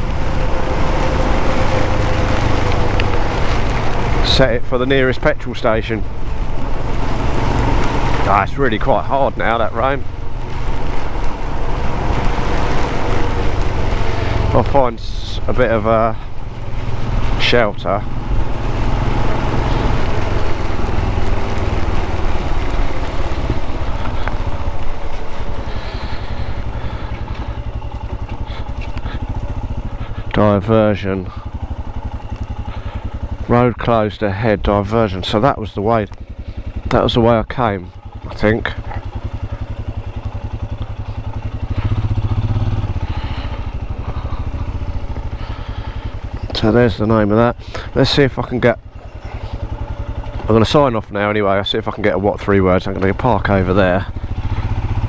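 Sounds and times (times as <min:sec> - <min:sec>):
motorcycle engine running: 0:00.0 - 0:55.0
rain noise: 0:00.0 - 0:55.0.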